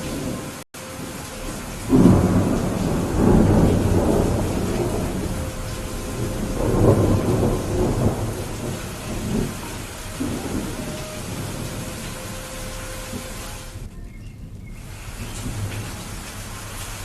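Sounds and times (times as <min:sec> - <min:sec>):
steady rain: 0:00.0 - 0:17.0
thunder rumbling: 0:00.0 - 0:17.0.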